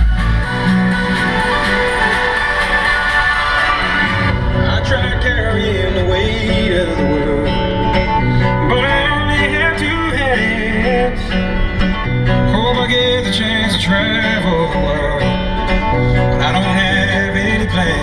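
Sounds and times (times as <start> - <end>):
song with singing over guitar: 0.0 - 18.0.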